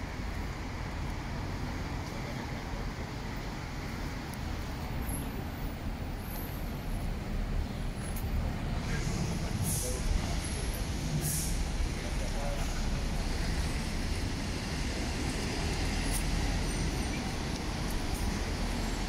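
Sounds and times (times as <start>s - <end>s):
large vehicle rumbling: 0.0s - 19.0s.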